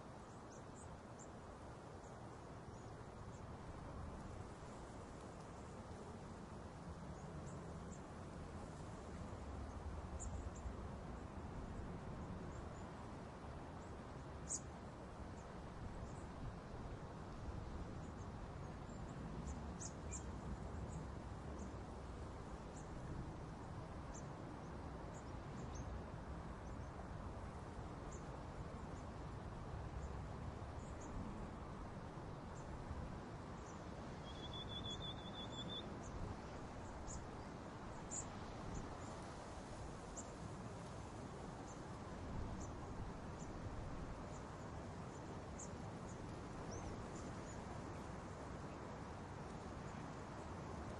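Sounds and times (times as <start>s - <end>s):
outdoor background noise: 0.0s - 50.9s.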